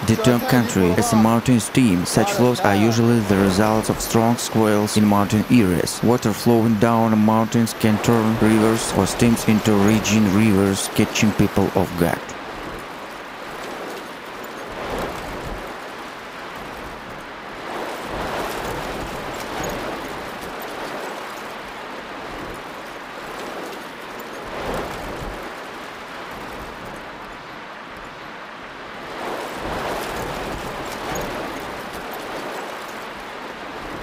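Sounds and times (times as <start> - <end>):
heavy rain: 0.0 - 34.0
rushing floodwater: 0.0 - 34.0.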